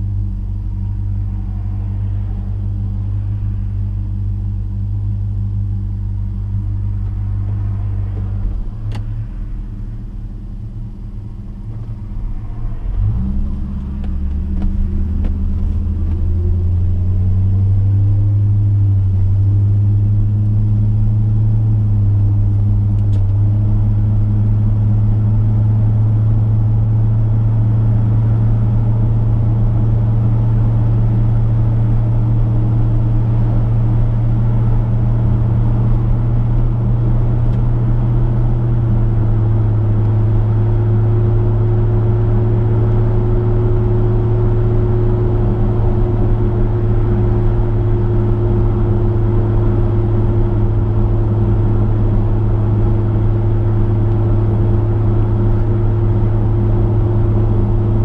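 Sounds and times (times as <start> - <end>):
car accelerating: 0.0 - 58.0
car engine idling: 0.0 - 58.0.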